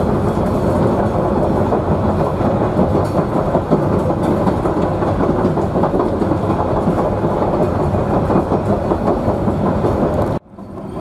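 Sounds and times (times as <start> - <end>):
diesel rail motor rumbling: 0.0 - 11.0
wheels clattering over rails: 0.0 - 11.0.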